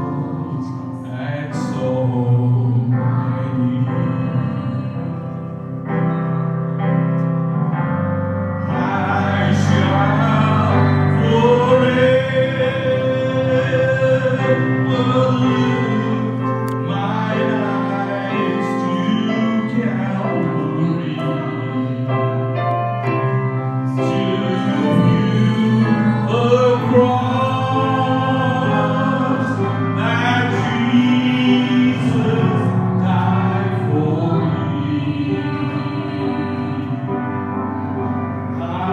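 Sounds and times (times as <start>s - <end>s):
man singing with vibrato: 0.0s - 5.8s, 8.6s - 38.9s
electronic keyboard chords: 0.0s - 38.9s.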